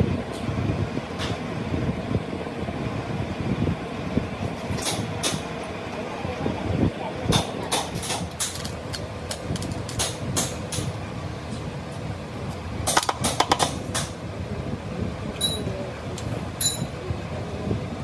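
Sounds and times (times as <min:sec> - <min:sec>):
transformer machine humming: 0:00.0 - 0:18.0.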